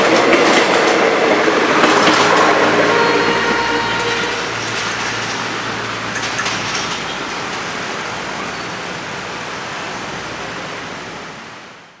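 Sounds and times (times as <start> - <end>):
train wheels rumbling on rail: 0.0 - 11.6.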